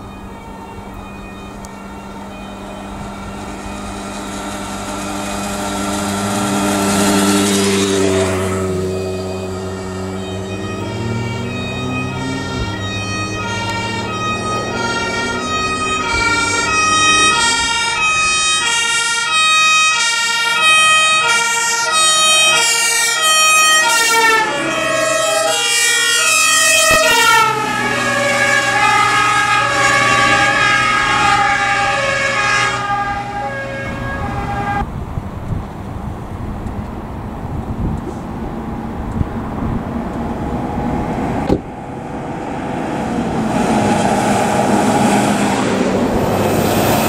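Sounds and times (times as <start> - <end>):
two-tone fire engine sirens: 0.0 - 34.9, 39.9 - 47.0
diesel truck engines: 0.0 - 47.0.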